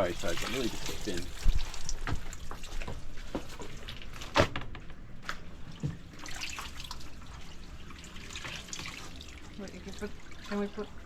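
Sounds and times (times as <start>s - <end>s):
water dripping and splashing: 0.0s - 4.4s, 5.3s - 11.0s.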